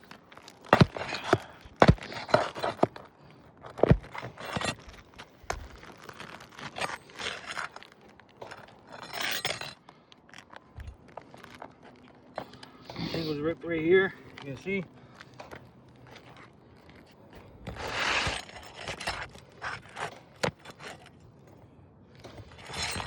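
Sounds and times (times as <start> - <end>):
roof shingles scraping: 0.0 - 21.3, 22.2 - 23.0.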